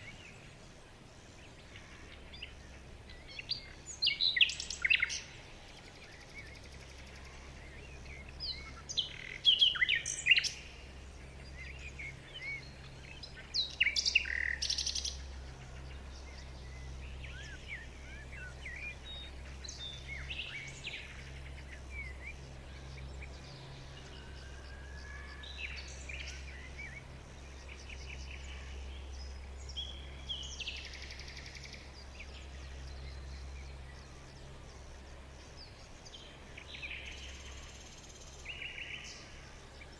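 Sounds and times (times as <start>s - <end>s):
birds chirping and singing: 0.0s - 39.9s
faint low hum: 0.0s - 39.9s.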